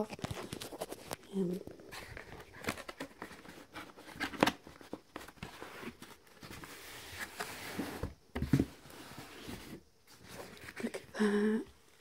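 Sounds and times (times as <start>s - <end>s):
cardboard rustling and scraping: 0.0s - 11.0s.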